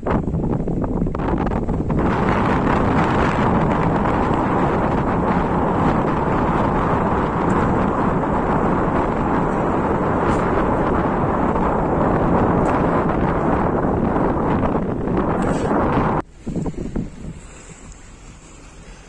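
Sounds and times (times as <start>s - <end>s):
boat engine rumble: 0.0s - 19.0s
wind noise on microphone: 0.0s - 19.0s.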